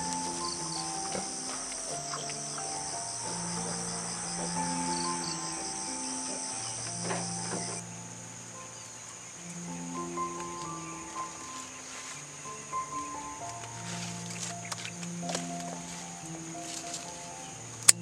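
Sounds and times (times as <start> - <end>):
insects droning: 0.0 - 18.0
soft background music: 0.0 - 18.0.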